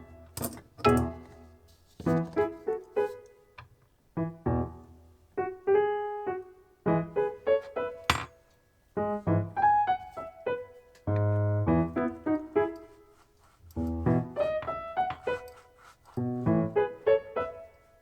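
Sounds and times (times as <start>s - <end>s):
piano music: 0.0s - 3.5s, 4.1s - 18.0s.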